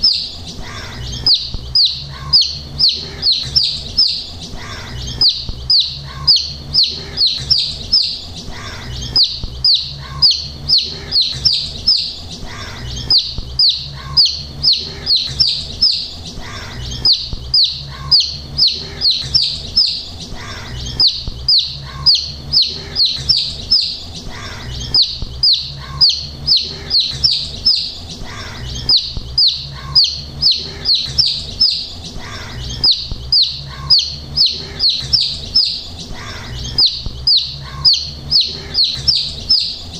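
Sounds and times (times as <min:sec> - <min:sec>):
chicks peeping: 0:00.0 - 0:39.9
faint low hum: 0:00.0 - 0:39.9.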